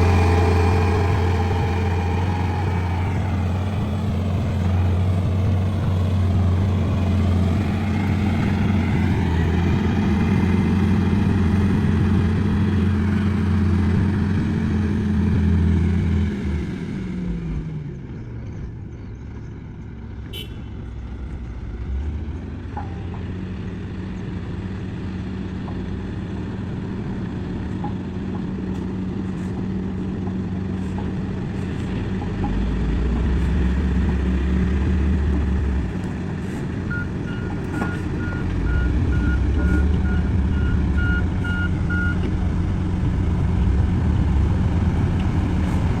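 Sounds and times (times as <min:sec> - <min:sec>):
bulldozer diesel engine: 0:00.0 - 0:46.0.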